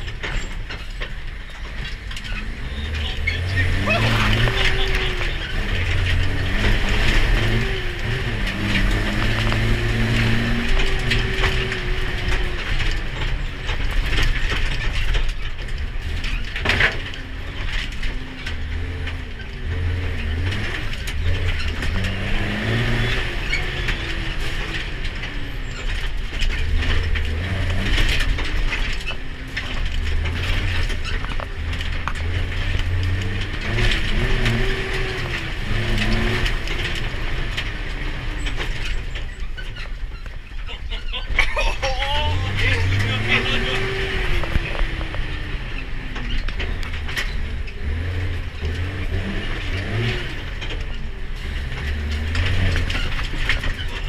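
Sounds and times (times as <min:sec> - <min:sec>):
truck body rattling: 0:00.0 - 0:54.0
truck diesel engine revving: 0:00.0 - 0:54.0.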